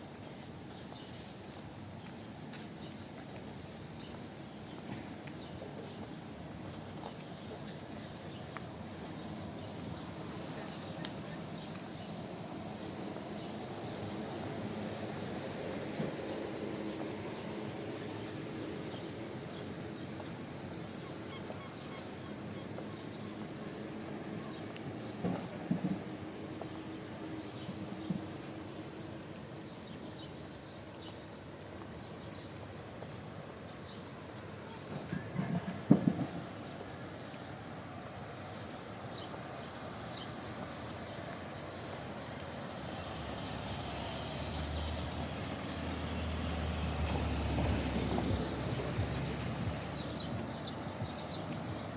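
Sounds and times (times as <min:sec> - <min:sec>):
broad background noise: 0:00.0 - 0:51.9.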